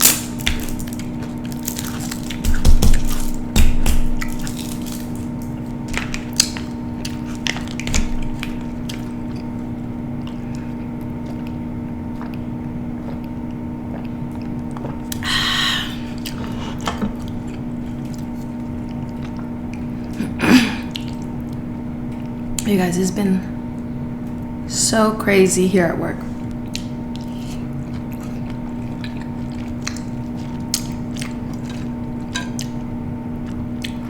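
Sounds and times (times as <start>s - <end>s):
chewing with mouth clicks: 0.0s - 15.2s, 16.1s - 20.2s, 20.9s - 22.7s, 26.4s - 34.0s
low steady hum: 0.0s - 34.0s.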